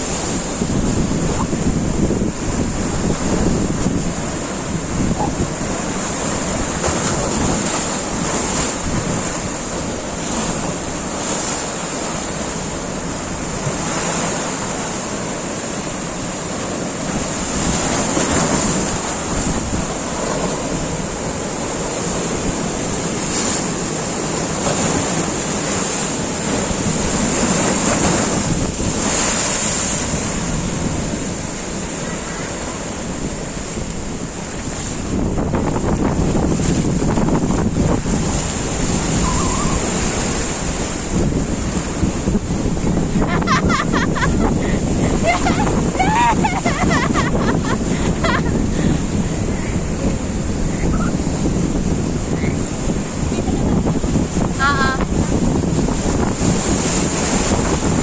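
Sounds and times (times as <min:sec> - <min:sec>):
wind buffeting microphone: 0:00.0 - 0:14.6, 0:17.0 - 0:58.0
surf breaking on beach: 0:00.0 - 0:58.0.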